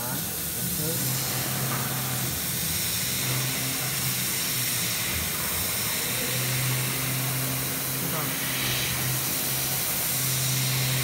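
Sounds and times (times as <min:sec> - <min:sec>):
laser cutter hiss: 0:00.0 - 0:11.0
low machine hum: 0:00.0 - 0:11.0.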